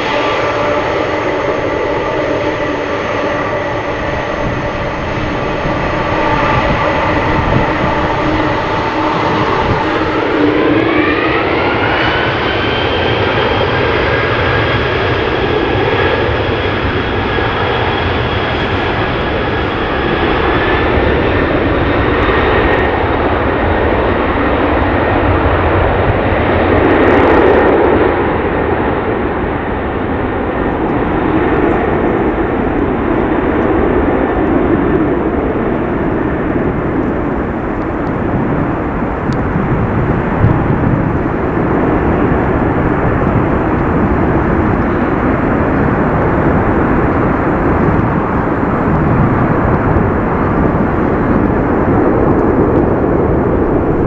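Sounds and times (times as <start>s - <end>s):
high fan whine: 0.0s - 54.0s
jet engine roar: 0.0s - 54.0s.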